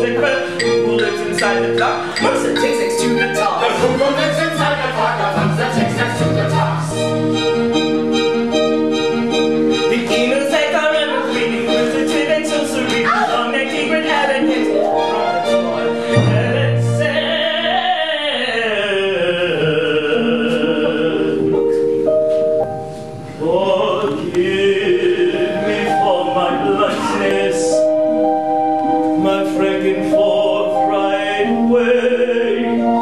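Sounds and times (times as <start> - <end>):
operatic wordless singing: 0.0 - 7.7, 9.6 - 21.9, 23.3 - 33.0
instrumental accompaniment: 0.0 - 18.1, 19.7 - 33.0.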